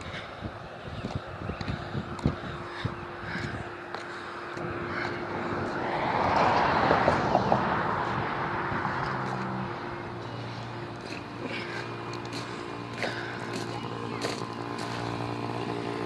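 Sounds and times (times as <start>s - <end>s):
small motorcycle engine passing: 0.0s - 16.0s.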